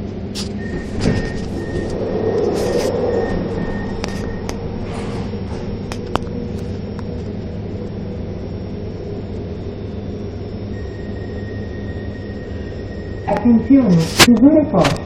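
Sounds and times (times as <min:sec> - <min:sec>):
metro train carriage rumble: 0:00.0 - 0:15.0.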